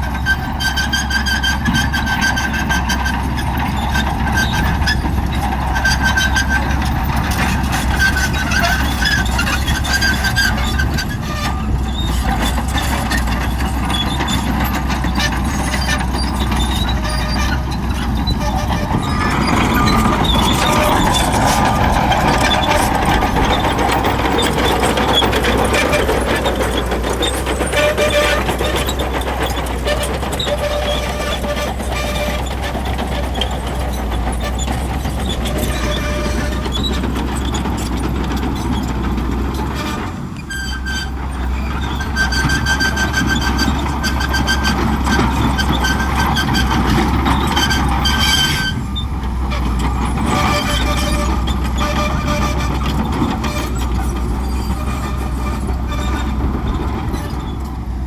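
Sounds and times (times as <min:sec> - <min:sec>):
diesel engine droning: 0:00.0 - 0:58.0
metallic squeals of steel tracks: 0:00.0 - 0:58.0.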